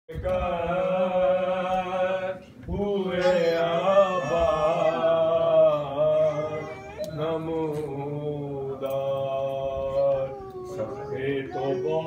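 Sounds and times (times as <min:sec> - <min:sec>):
voices chanting a lament: 0:00.1 - 0:12.0.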